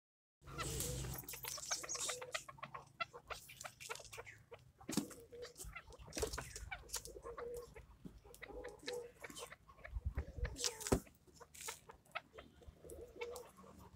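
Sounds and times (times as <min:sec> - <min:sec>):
partridges clucking: 0:00.6 - 0:13.7.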